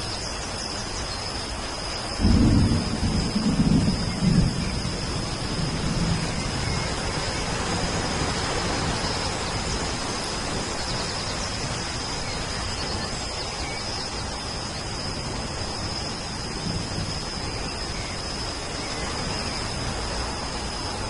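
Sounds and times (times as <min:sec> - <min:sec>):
steady rain: 0:00.0 - 0:21.0
thunder rumble: 0:02.2 - 0:21.0.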